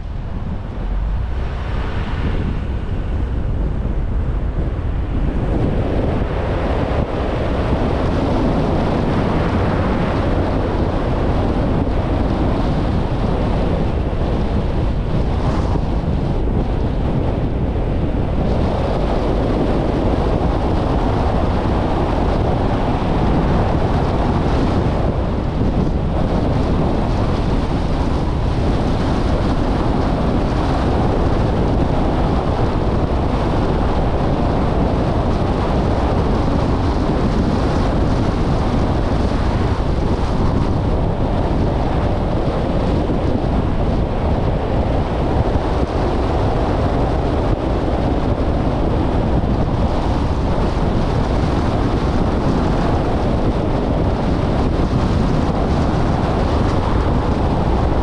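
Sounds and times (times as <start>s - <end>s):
car road noise: 0.0s - 58.0s
wind on microphone: 0.0s - 58.0s.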